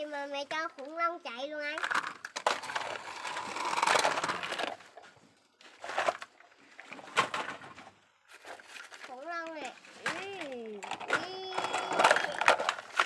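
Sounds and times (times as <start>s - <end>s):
plastic scraping in wet sand: 1.8s - 13.0s.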